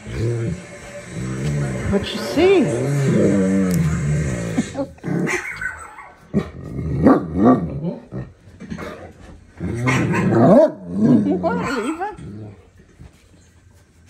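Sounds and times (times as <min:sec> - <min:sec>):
dogs barking and growling: 0:00.0 - 0:13.0.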